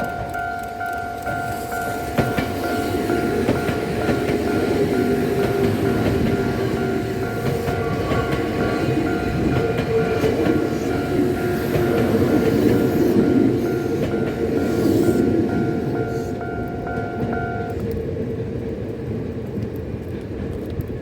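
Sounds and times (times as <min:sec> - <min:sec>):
level crossing alarm ringing: 0:00.0 - 0:17.8
wheels clattering over rail joints: 0:00.0 - 0:17.9
electric train passing: 0:00.0 - 0:21.0.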